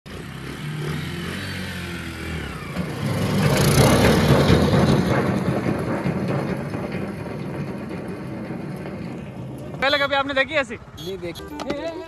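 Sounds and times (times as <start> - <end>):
small engine running: 0.1 - 9.8.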